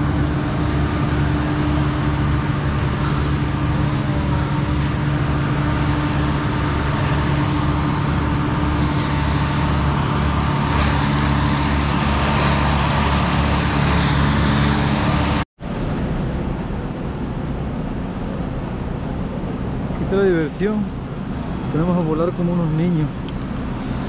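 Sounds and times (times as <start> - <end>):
engine running steadily: 0.0 - 24.0
even rushing noise: 0.0 - 24.0.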